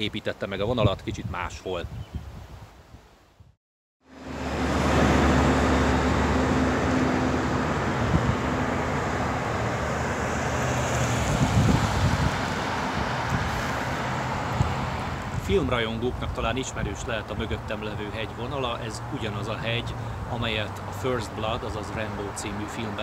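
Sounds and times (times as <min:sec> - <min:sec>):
cars passing: 0:04.0 - 0:23.0
engine hum: 0:04.0 - 0:23.0.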